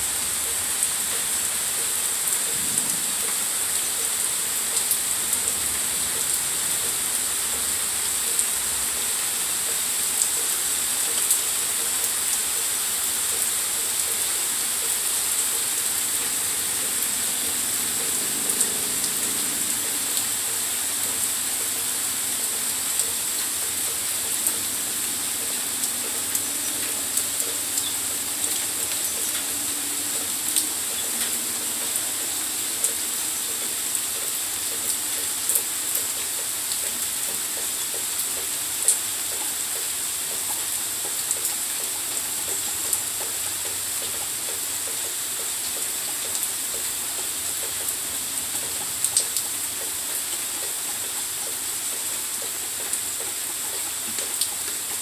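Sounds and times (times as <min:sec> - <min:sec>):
raindrops ticking close by: 0:00.0 - 0:55.0
steady rain hiss: 0:00.0 - 0:55.0.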